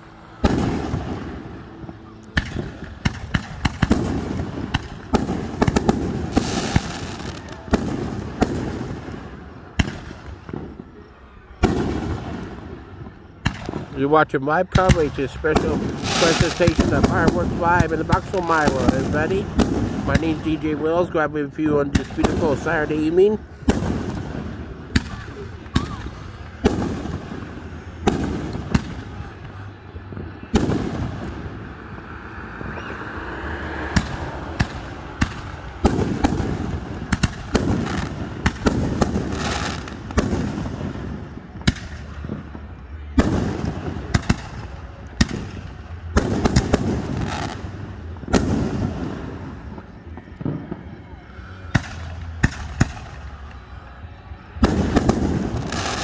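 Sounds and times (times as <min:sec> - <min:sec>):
fireworks banging: 0:00.0 - 0:56.0.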